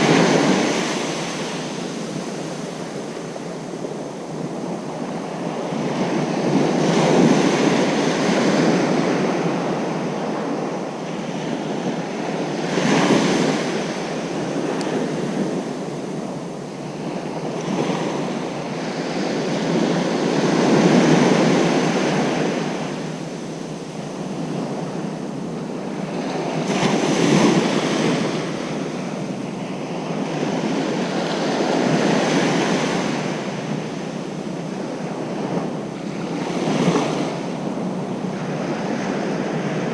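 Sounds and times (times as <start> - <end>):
ocean waves breaking on beach: 0.0 - 39.9
wind noise on microphone: 0.0 - 39.9.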